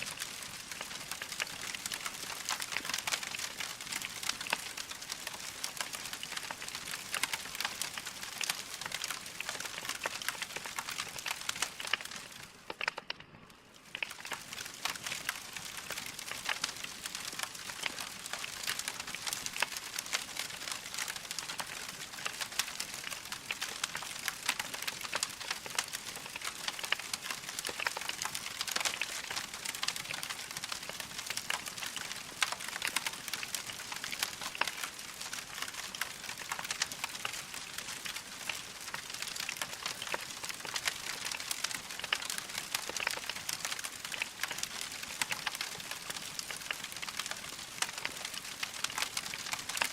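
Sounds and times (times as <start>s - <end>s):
log fire crackling: 0.0s - 49.9s.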